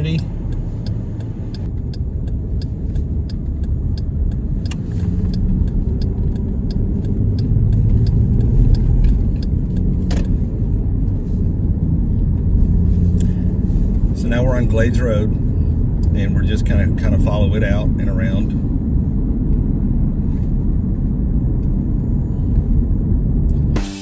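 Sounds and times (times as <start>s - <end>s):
turn signal ticking: 0.0s - 23.8s
engine and road rumble: 0.0s - 24.0s.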